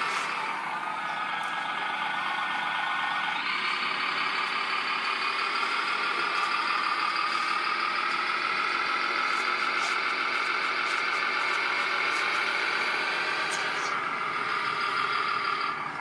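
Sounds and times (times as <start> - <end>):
toy loader motor whine: 0.0 - 16.0.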